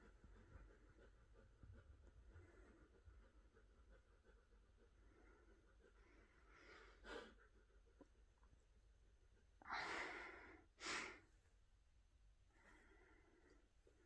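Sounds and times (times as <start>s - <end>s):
quiet breathing: 0.0s - 14.0s.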